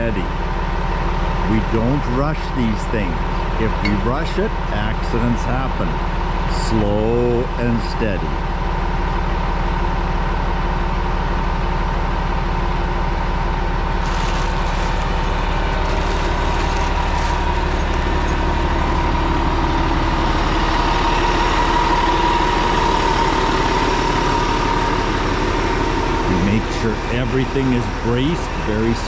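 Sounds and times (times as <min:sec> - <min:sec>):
diesel engine running: 0:00.0 - 0:29.0
steady high whine: 0:00.1 - 0:09.4, 0:13.6 - 0:29.0.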